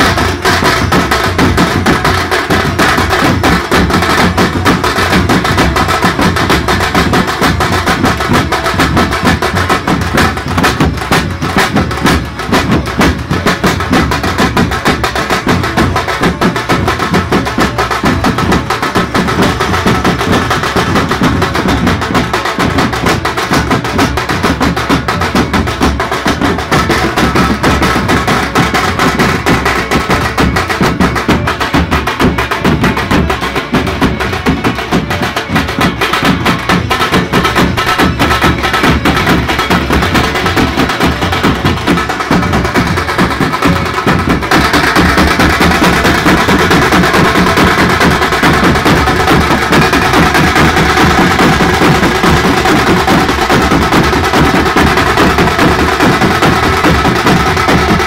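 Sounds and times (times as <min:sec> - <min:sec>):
large drums beaten with sticks: 0:00.0 - 0:58.0.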